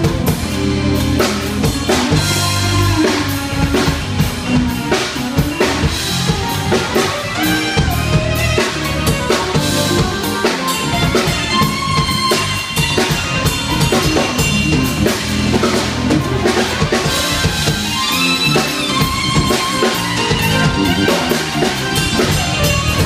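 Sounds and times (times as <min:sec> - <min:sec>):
drum kit played live: 0:00.0 - 0:23.0
pitched backing music: 0:00.0 - 0:23.0.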